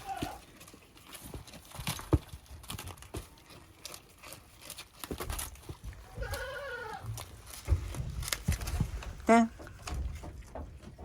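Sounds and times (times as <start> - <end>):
clicks and knocks of movement: 0.2 - 11.0.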